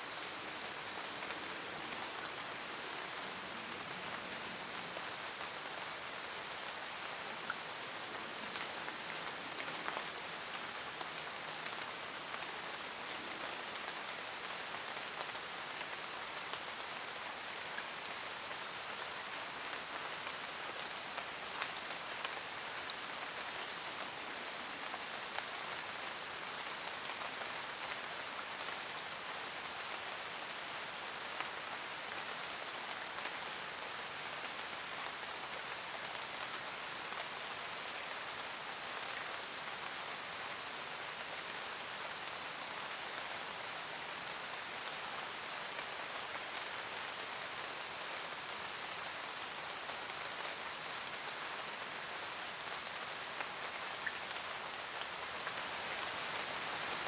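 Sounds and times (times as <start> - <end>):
rain hiss in forest: 0.0 - 57.0
raindrops pattering on leaves: 0.0 - 57.0.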